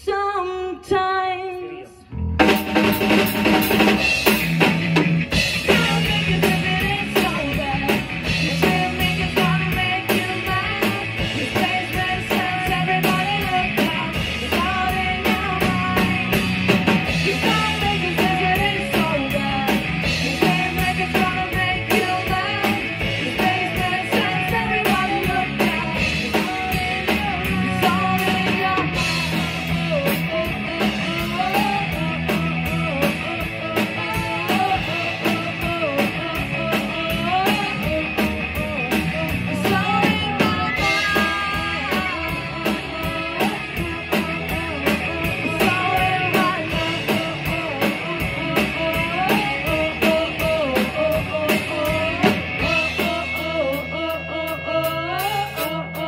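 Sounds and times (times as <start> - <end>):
bass guitar line: 0.0 - 56.0
electric guitar: 0.0 - 56.0
busy drumming: 2.4 - 56.0.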